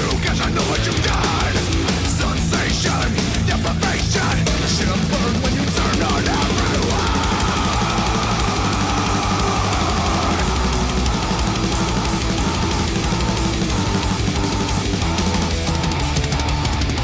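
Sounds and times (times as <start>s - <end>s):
heavy metal drums and guitar: 0.0s - 17.0s.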